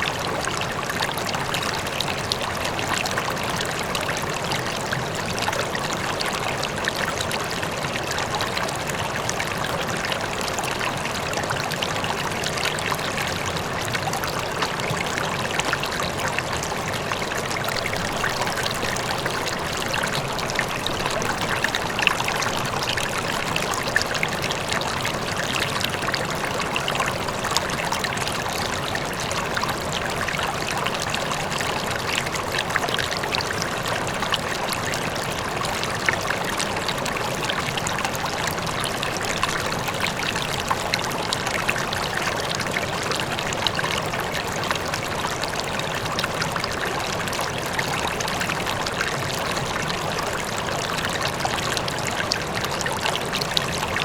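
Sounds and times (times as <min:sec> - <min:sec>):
distant waterfall: 0:00.0 - 0:54.0
river flowing over rocks: 0:00.0 - 0:54.0.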